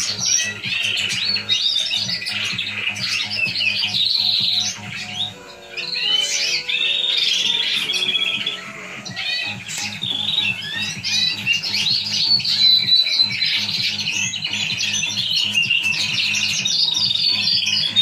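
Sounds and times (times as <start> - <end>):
canaries singing trills and chirps: 0.0 - 18.0.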